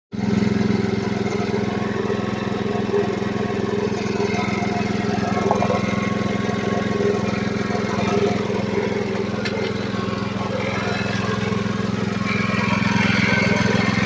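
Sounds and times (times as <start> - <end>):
single-cylinder engine running: 0.1 - 14.0.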